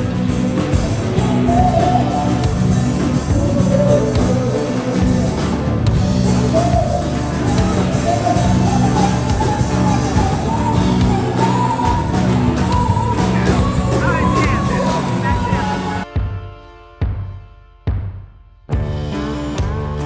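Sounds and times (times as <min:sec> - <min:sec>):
person singing: 0:00.0 - 0:16.1
live rock band playing: 0:00.0 - 0:16.9.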